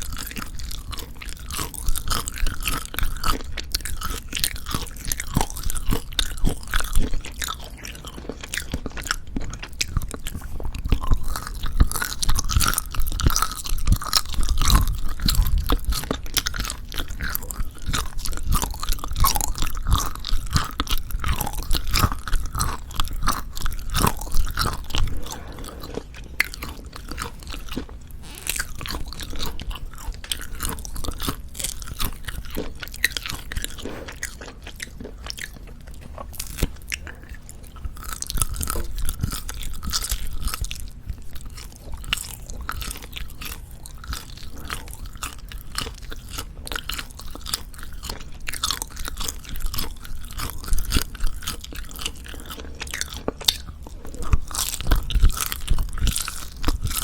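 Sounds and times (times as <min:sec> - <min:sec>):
chewing jerky: 0:00.0 - 0:57.0
wet mouth sounds: 0:00.0 - 0:57.0.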